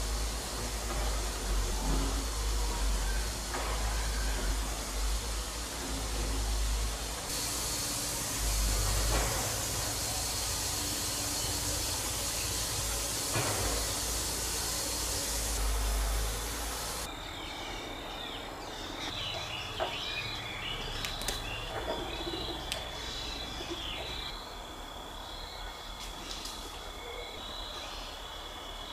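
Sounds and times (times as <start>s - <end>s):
birds chirping: 0.0s - 28.9s
steady hiss: 0.0s - 28.9s.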